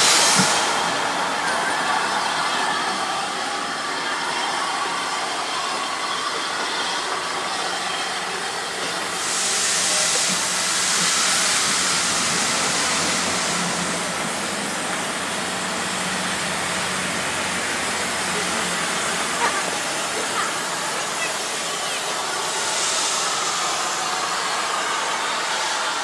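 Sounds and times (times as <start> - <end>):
steam hissing: 0.0 - 26.0
train carriages rolling past: 0.0 - 26.0.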